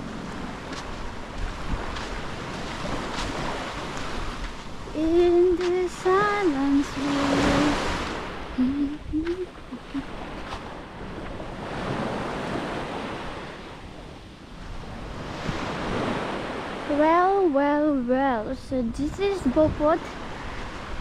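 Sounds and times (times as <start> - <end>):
waves washing onto beach: 0.0 - 21.0.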